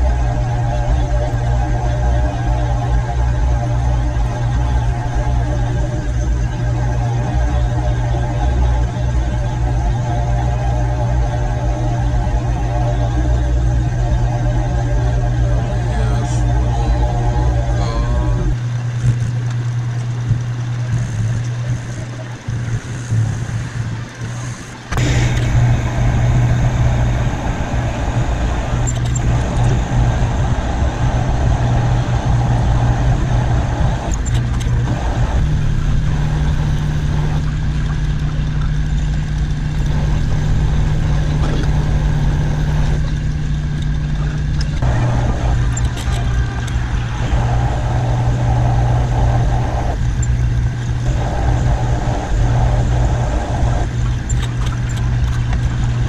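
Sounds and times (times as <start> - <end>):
lathe motor and gear hum: 0.0 - 56.0.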